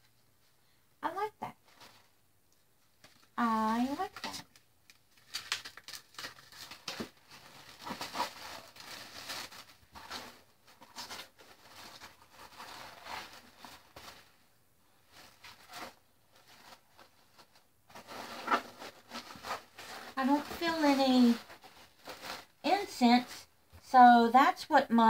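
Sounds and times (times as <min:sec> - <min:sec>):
paper and packaging rustling: 0:01.6 - 0:02.2, 0:02.8 - 0:23.4.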